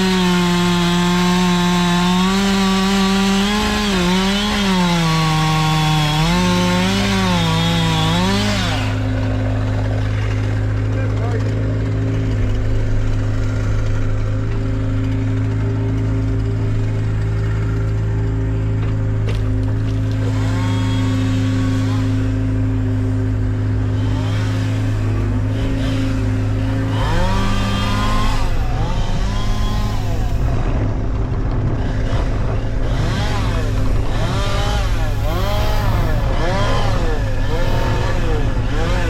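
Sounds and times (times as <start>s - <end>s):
engine revving: 0.0s - 39.0s
engine running steadily: 0.0s - 39.0s.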